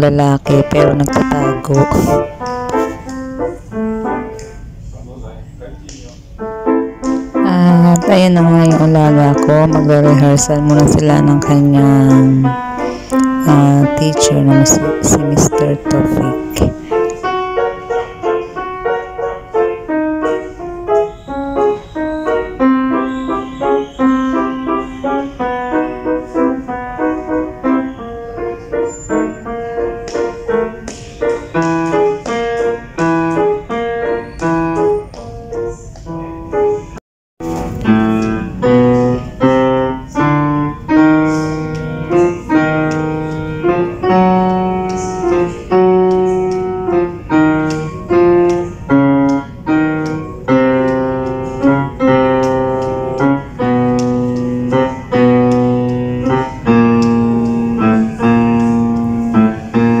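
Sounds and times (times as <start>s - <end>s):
grand piano playing: 0.0s - 60.0s.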